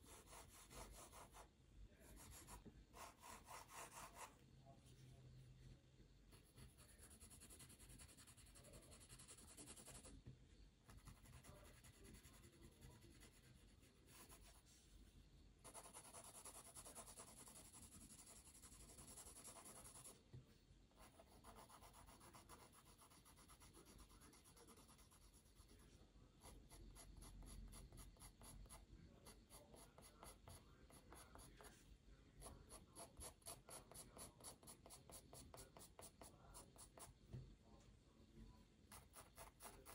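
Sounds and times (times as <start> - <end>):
pencil scratching on paper: 0.0 - 1.5, 2.1 - 4.3, 6.3 - 10.1, 10.9 - 14.6, 15.6 - 20.2, 21.0 - 31.8, 32.4 - 37.2, 38.9 - 39.9.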